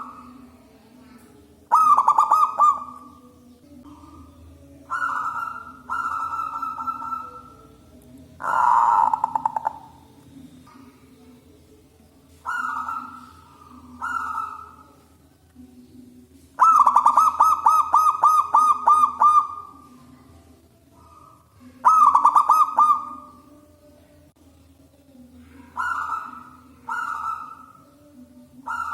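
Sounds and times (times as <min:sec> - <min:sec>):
dove cooing: 0:00.0 - 0:11.4, 0:12.3 - 0:15.2, 0:16.6 - 0:23.6, 0:25.4 - 0:28.9
faint low hum: 0:00.0 - 0:28.9.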